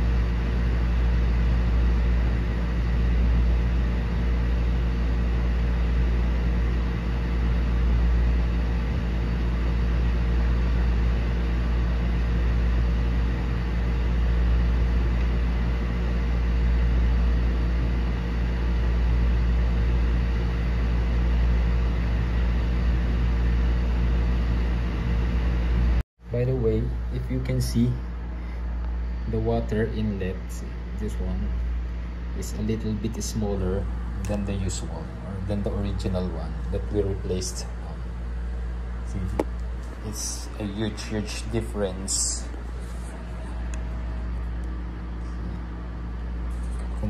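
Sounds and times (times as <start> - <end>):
aquarium filter humming and rushing: 0.0 - 47.0.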